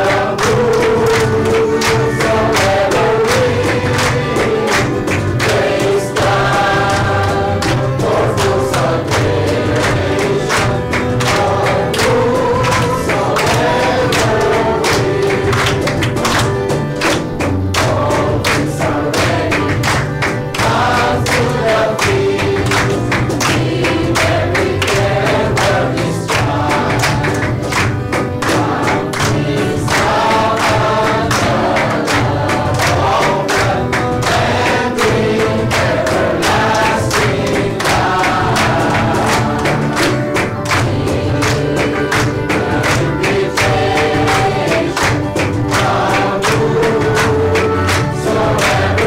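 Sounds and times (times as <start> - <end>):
accompaniment with steady beat: 0.0 - 49.0
group singing gospel song: 0.0 - 49.0.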